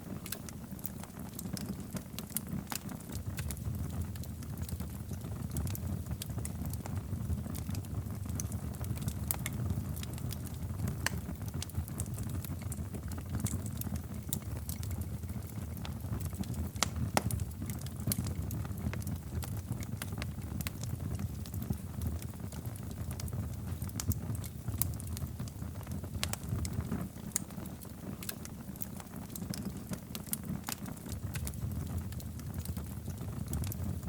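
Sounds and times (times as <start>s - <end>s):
fire popping and snapping: 0.0s - 34.0s
low rumble of burning fire: 0.0s - 34.0s.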